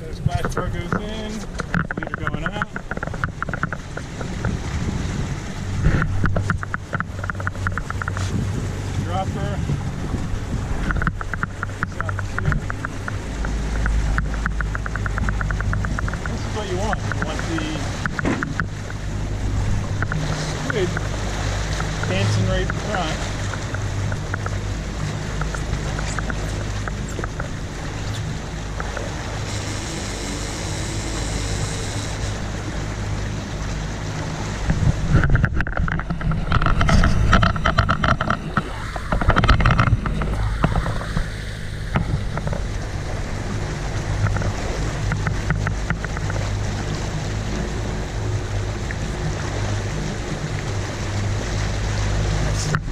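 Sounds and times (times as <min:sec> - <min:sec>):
boat engine droning: 0:00.0 - 0:52.9
rushing water: 0:00.0 - 0:52.9
wind: 0:00.0 - 0:52.9.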